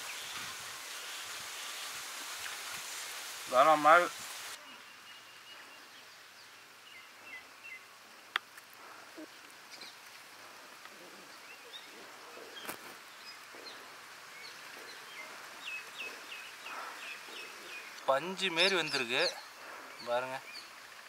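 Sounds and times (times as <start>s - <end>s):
small birds chirping: 3.6s - 21.0s.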